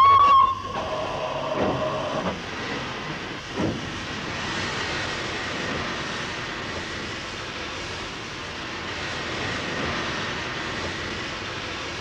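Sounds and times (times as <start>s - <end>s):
steam locomotive steam rushing: 0.0s - 12.0s.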